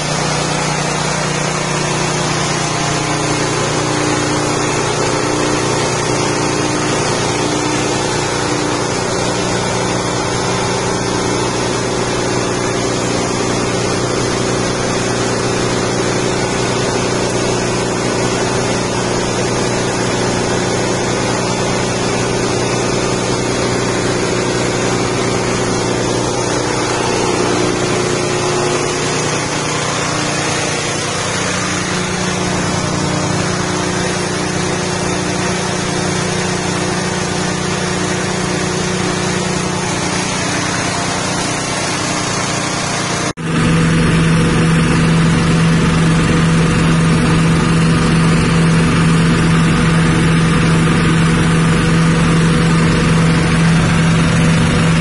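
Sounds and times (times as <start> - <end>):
grinding mill engine running: 0.0 - 55.0.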